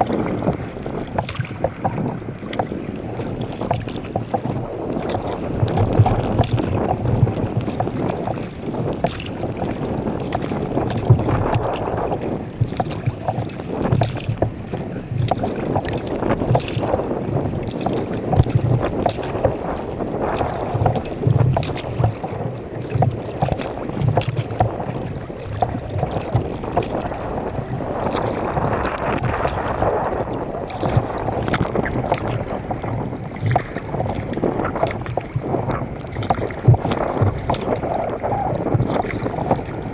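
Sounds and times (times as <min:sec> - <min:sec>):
water splashing against kayak: 0:00.0 - 0:39.9
wind buffeting microphone: 0:00.0 - 0:39.9.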